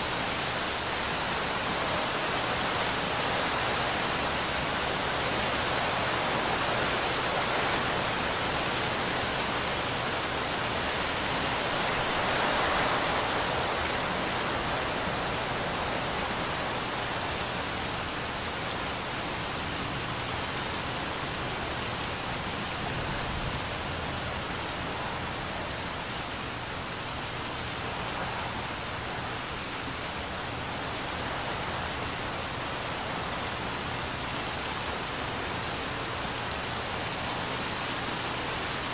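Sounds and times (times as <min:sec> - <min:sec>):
rain falling on pool water: 0:00.0 - 0:38.9.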